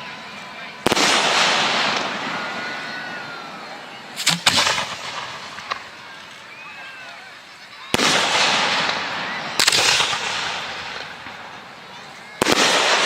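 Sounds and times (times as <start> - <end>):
fireworks bangs: 0.0 - 6.8, 7.8 - 13.0
faint firework crack: 0.7 - 6.6, 7.8 - 13.0.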